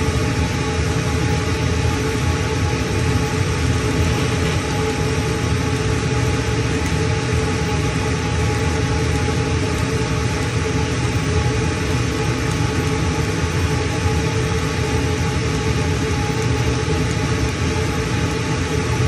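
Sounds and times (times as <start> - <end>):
laser engraver machine hum: 0.0 - 19.0.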